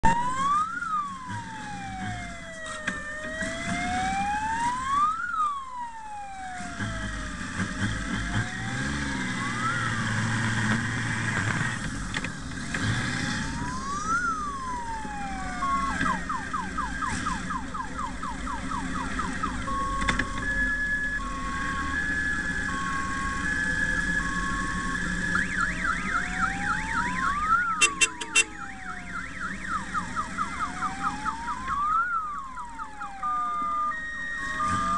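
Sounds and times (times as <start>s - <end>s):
siren wailing: 0.0s - 11.8s, 13.1s - 34.9s
siren yelp: 0.0s - 11.8s, 13.2s - 34.9s
two-tone siren: 0.0s - 11.8s, 13.0s - 34.9s.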